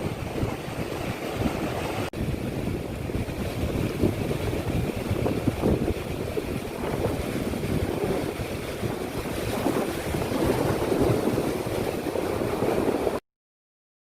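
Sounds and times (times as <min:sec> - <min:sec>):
sea surf: 0:00.0 - 0:13.2
wind buffeting microphone: 0:00.0 - 0:13.2.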